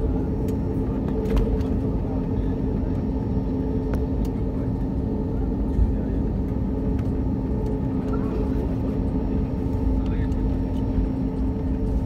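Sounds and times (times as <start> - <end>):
aircraft cabin rumble: 0.0 - 12.0
jet engine idling hum: 0.0 - 12.0.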